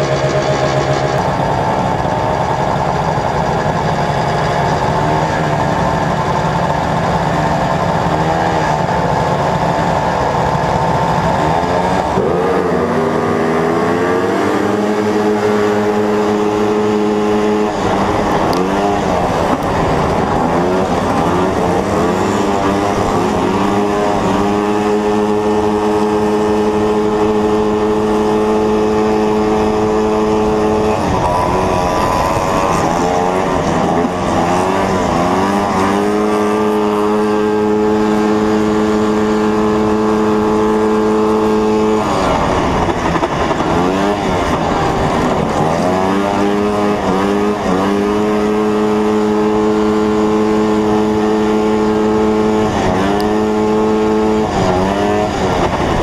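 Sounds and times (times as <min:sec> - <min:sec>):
snowmobile engine at full throttle: 0:00.0 - 0:56.0.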